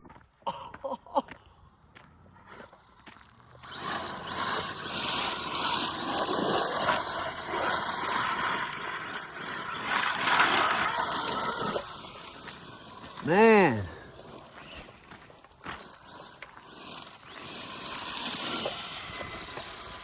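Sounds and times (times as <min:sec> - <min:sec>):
tyre and ground noise: 0:00.0 - 0:20.0
electric motor whining: 0:01.8 - 0:20.0.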